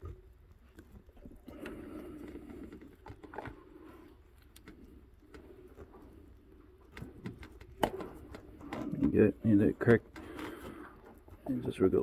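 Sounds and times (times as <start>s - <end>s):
muffled rustle of handling: 0.0s - 12.0s.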